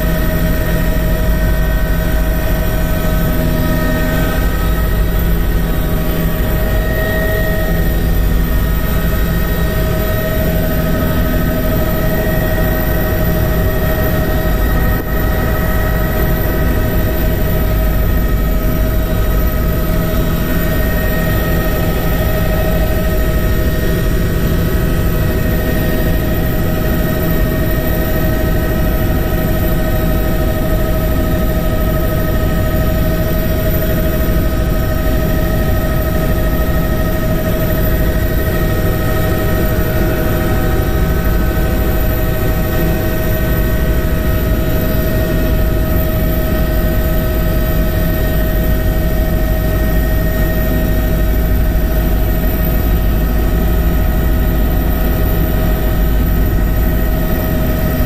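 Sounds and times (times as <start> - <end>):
loud engine drone: 0.0 - 58.0.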